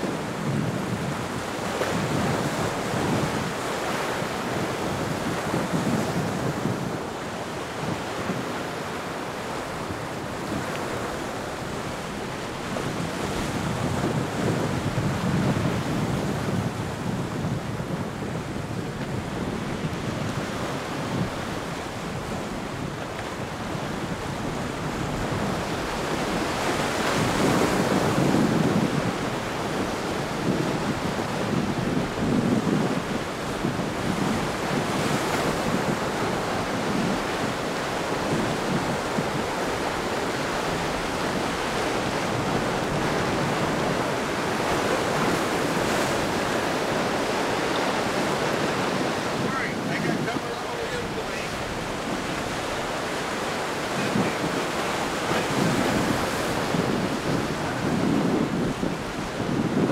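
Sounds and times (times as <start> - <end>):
ocean surf breaking: 0.0 - 59.9
wind buffeting microphone: 0.0 - 59.9.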